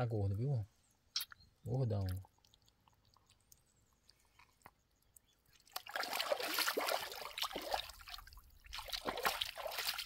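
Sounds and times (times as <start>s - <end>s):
water splashing and trickling: 1.2s - 10.0s.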